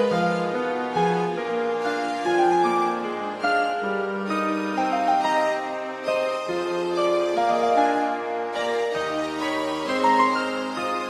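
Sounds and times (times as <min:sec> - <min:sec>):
synthesized orchestral chords: 0:00.0 - 0:11.0.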